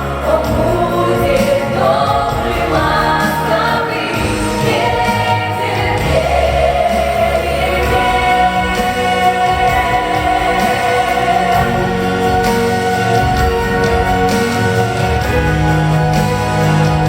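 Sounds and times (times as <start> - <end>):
instrumental accompaniment: 0.0 - 17.0
vocal ensemble singing in harmony: 0.0 - 17.0.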